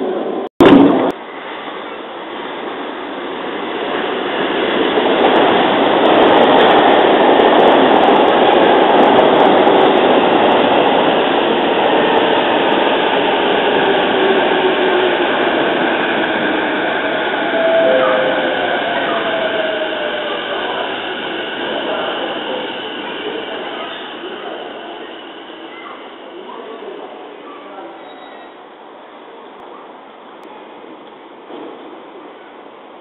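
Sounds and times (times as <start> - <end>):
electric train running past: 1.2 - 27.9.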